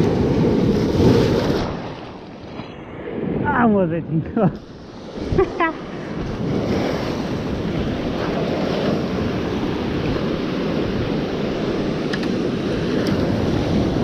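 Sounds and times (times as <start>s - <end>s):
sea surf washing over rocks: 0.0s - 14.0s
wind buffeting microphone: 0.0s - 14.0s.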